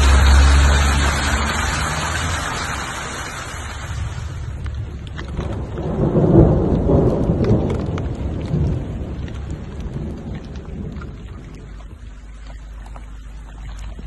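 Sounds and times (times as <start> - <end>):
thunder rumble: 0.0 - 12.9
steady rain: 0.0 - 14.0.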